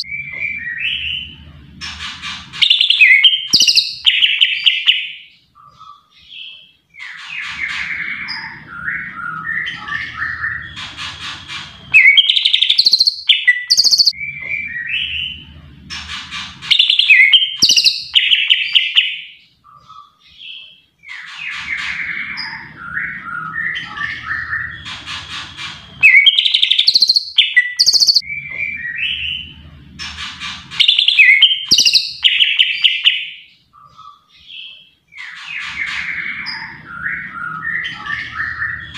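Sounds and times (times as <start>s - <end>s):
bird singing whistles and trills: 0.0s - 1.3s, 2.6s - 5.3s, 6.4s - 15.4s, 16.7s - 29.5s, 30.8s - 38.9s.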